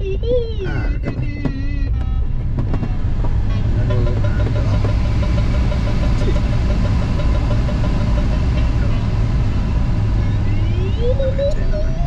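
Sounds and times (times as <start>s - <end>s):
low rumble of airflow: 0.0s - 12.0s
variometer beeping: 0.0s - 12.0s.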